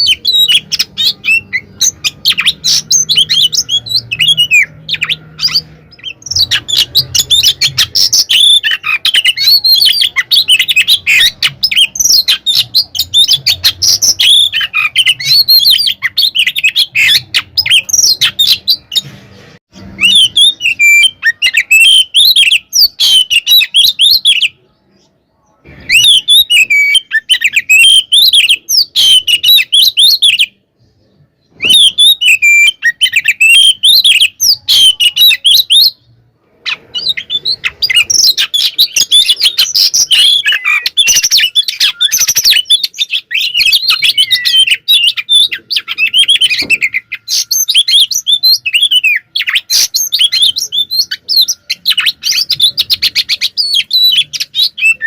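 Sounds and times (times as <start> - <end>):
bird singing: 0.0 - 19.1, 19.7 - 55.0.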